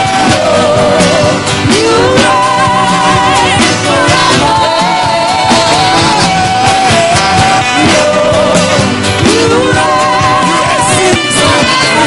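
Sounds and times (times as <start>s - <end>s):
acoustic guitar: 0.0s - 12.0s
electric guitar: 0.0s - 12.0s.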